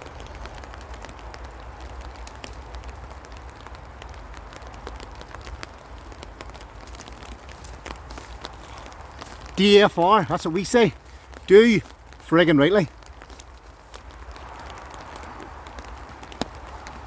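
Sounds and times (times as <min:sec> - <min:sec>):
heavy rain falling: 0:00.0 - 0:17.0
raindrops ticking: 0:00.0 - 0:17.0.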